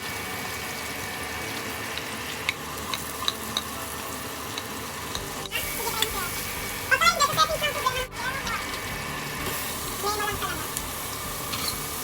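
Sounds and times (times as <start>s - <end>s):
fish sizzling in hot oil: 0.0s - 12.0s
oil popping and crackling: 0.0s - 12.0s.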